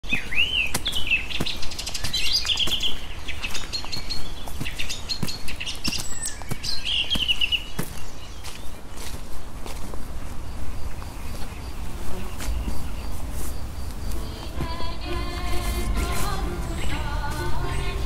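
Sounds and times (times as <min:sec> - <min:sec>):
birds chirping and trilling: 0:00.0 - 0:09.4, 0:10.2 - 0:18.0.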